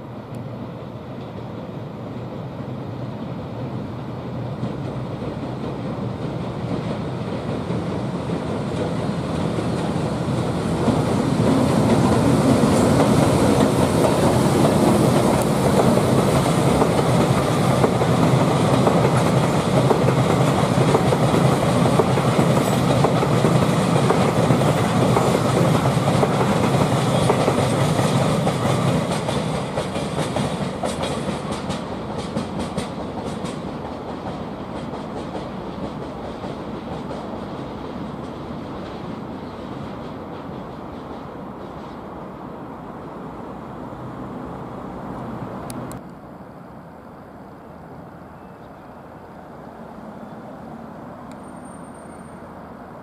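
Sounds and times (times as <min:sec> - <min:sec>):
freight train wheels on rail: 0:00.0 - 0:53.0.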